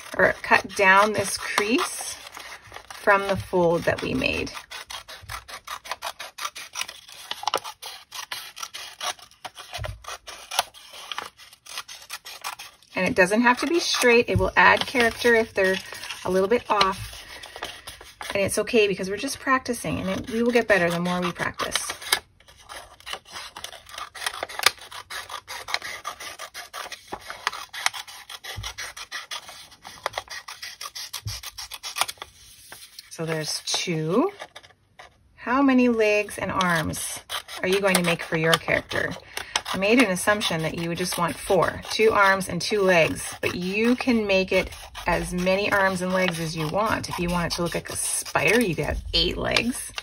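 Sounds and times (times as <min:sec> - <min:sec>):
paper rustling: 0:00.0 - 0:19.0, 0:20.0 - 0:35.2, 0:36.6 - 0:50.0
scissors snipping paper: 0:00.0 - 0:35.1, 0:36.2 - 0:50.0.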